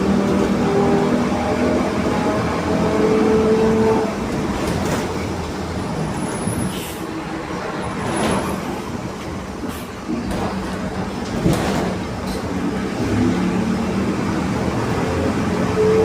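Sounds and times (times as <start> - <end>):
bus running and road noise: 0.0 - 16.0.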